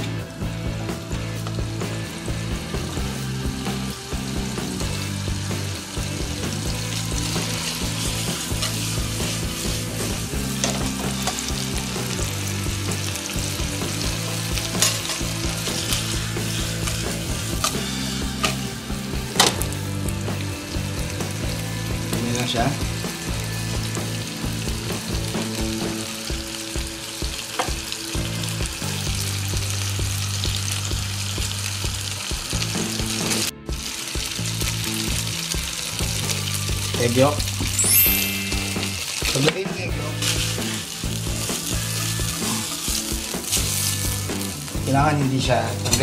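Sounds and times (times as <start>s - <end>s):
low background music: 0.0s - 46.0s
pasta sizzling in a frying pan: 1.4s - 39.6s, 40.2s - 45.2s.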